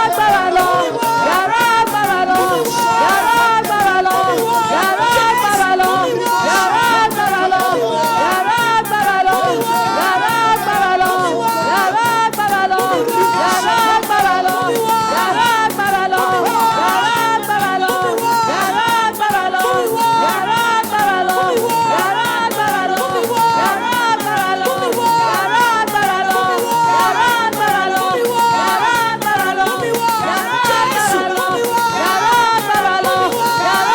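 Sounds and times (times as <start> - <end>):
music with rattling percussion beat: 0.0 - 33.9.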